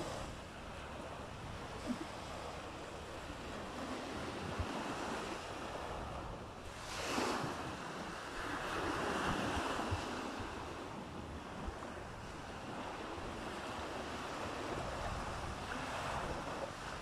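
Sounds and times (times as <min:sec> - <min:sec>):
waves washing on a beach: 0:00.0 - 0:17.0.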